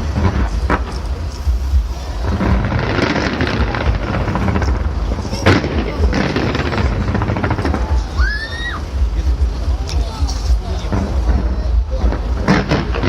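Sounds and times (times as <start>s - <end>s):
sharp firework bang: 0.0s - 9.1s, 9.8s - 13.0s
fireworks booming and crackling: 0.0s - 13.0s.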